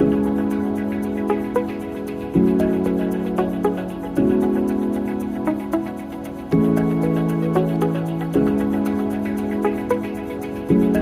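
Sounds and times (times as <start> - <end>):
soft sustained chords: 0.0 - 11.0.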